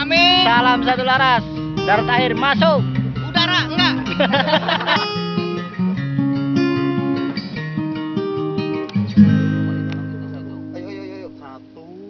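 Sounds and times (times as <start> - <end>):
held bass notes: 0.0 - 12.0
plucked guitar melody: 0.0 - 12.0.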